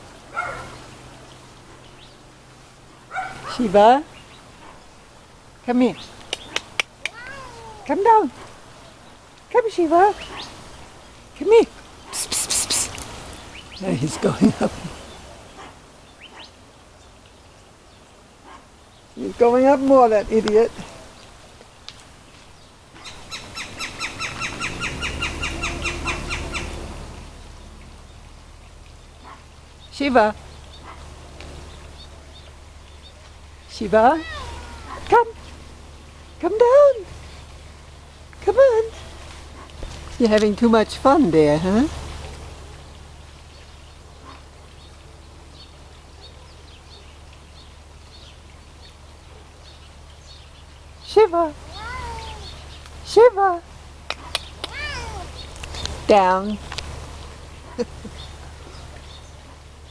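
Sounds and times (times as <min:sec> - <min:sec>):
small birds chirping: 0:00.3 - 0:59.9.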